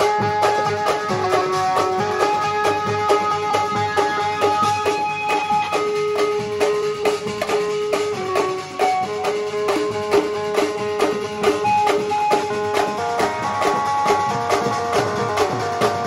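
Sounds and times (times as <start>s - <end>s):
hand drums beating: 0.0s - 16.0s
held note melody: 0.0s - 16.0s
steel pot beaten: 0.0s - 16.0s.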